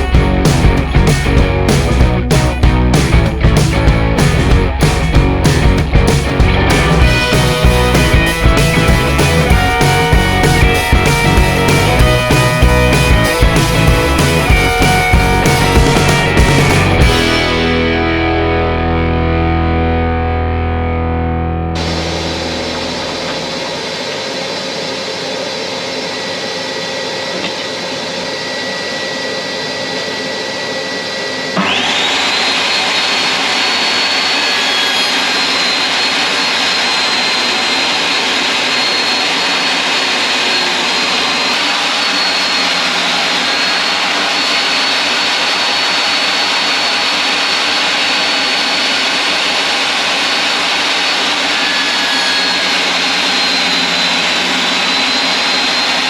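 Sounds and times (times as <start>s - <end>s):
table saw running with high whine: 6.4s - 19.5s, 21.7s - 56.0s.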